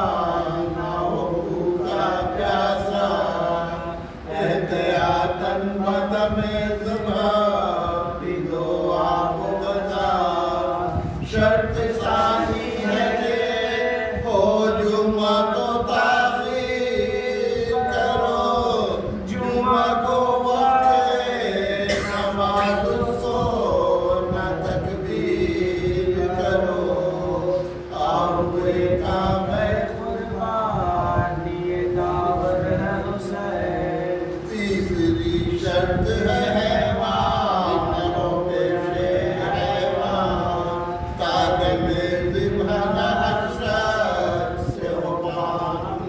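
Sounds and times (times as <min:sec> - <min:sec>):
men chanting together: 0:00.0 - 0:46.0.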